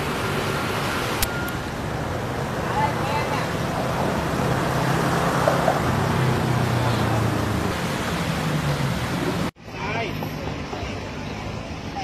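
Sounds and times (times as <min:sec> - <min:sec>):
even outdoor hiss: 0:00.0 - 0:12.0.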